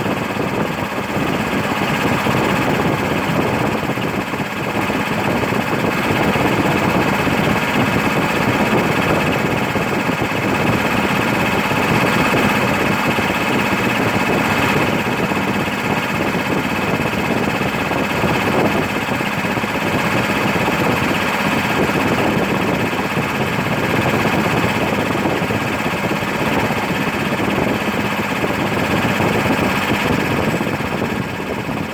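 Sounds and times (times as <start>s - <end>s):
compressor running: 0.0s - 31.9s.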